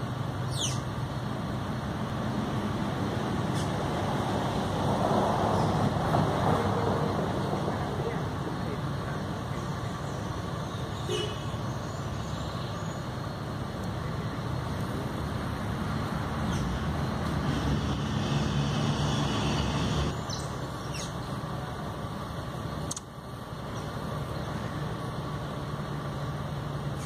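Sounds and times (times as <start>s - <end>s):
distant road traffic rumble: 0.0s - 27.0s.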